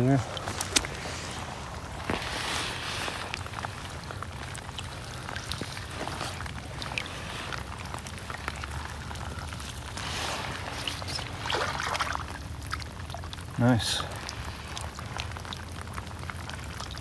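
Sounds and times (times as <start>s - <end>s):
rain on standing water: 0.0s - 17.0s.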